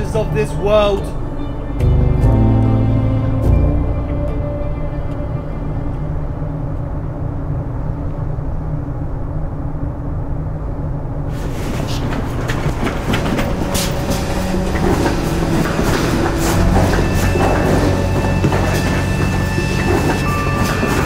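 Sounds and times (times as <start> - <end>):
deep steady rumble: 0.0 - 21.0.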